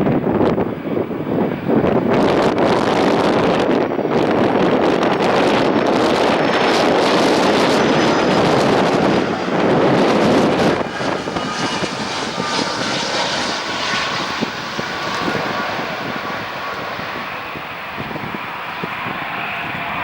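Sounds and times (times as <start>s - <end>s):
faint engine whine: 0.0s - 20.0s
jet engines rushing: 0.0s - 20.0s.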